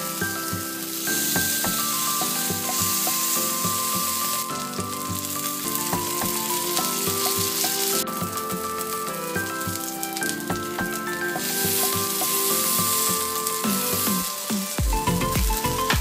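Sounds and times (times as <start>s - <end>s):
food sizzling in oil: 0.0s - 15.9s
background music: 0.0s - 16.0s.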